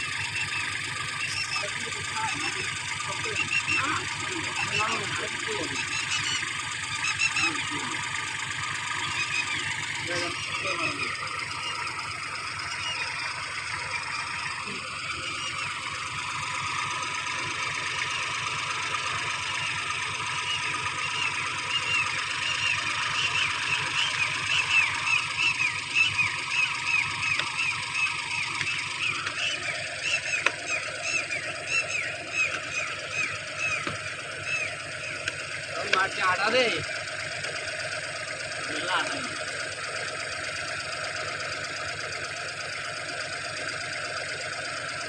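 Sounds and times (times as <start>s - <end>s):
heavy machine engine running: 0.0s - 45.0s.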